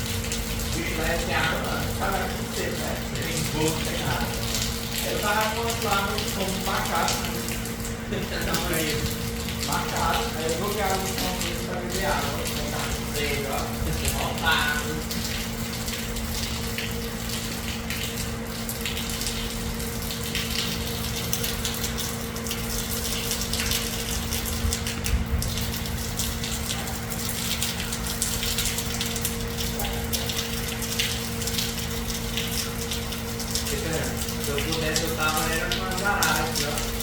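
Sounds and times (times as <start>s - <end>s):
steady electric hum: 0.0s - 37.0s
water running from spout: 0.0s - 37.0s.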